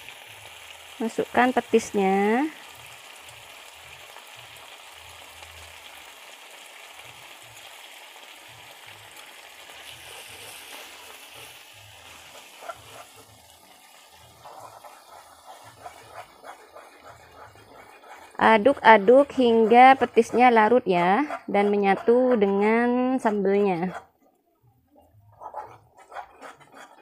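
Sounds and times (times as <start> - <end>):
sauce sizzling in a wok: 0.0 - 22.0.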